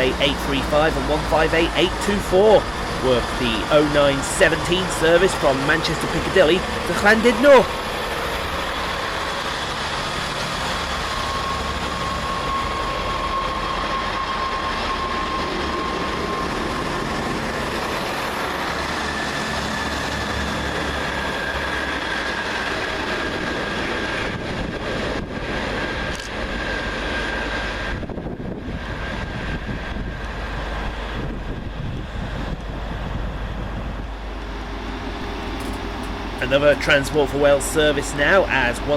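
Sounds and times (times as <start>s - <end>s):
steady whine: 0.0s - 38.9s
train engines and wheels rumbling: 0.0s - 38.9s.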